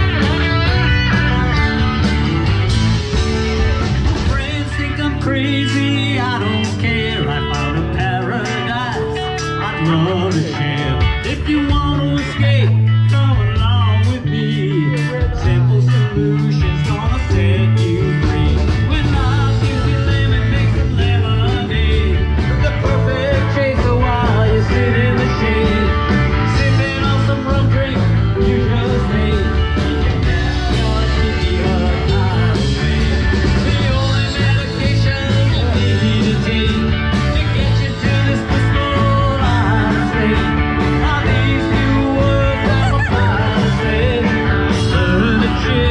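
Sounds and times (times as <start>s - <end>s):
bass line: 0.0s - 45.9s
drums: 0.0s - 45.9s
guitar: 0.0s - 45.9s
live band playing: 0.0s - 45.9s.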